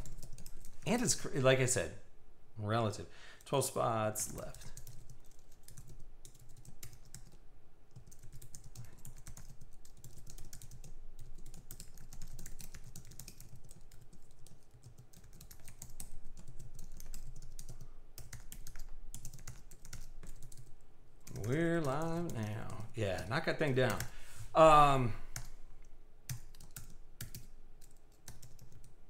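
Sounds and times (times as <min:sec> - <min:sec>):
fast typing on computer keyboard: 0:00.0 - 0:00.9, 0:04.3 - 0:24.1, 0:26.3 - 0:29.0.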